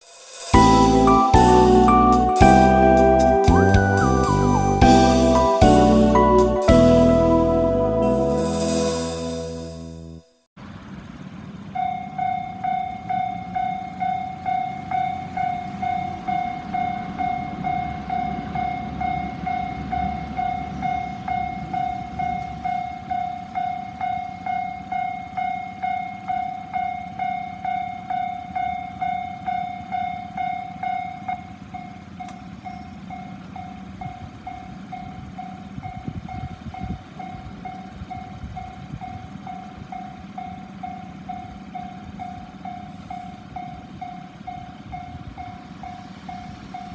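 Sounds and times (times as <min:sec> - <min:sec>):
train rumbling past: 0:00.1 - 0:46.9
electronic crossing warning bell: 0:00.5 - 0:10.3, 0:11.1 - 0:46.9.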